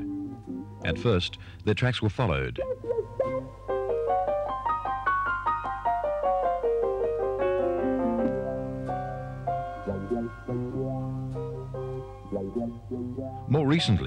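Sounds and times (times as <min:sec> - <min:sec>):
piano music: 0:00.0 - 0:01.4, 0:02.6 - 0:14.0.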